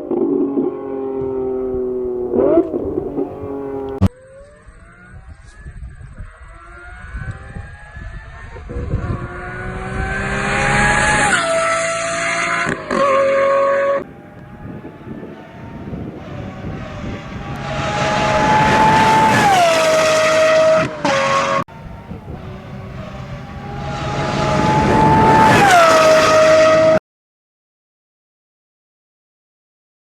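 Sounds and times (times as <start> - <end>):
sports car engine accelerating: 0.0 - 27.0.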